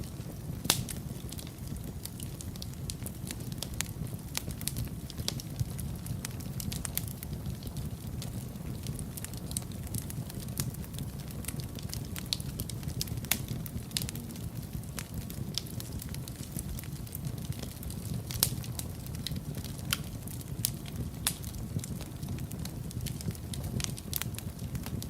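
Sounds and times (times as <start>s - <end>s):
fire rumbling: 0.0s - 25.0s
logs crackling and popping: 0.0s - 25.0s.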